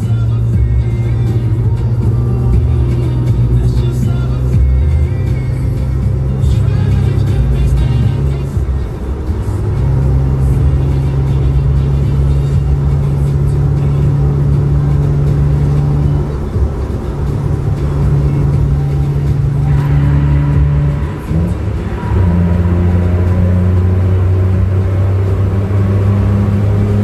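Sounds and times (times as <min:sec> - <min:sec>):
car engine droning: 0:00.0 - 0:27.0
tyre and road noise: 0:00.0 - 0:27.0.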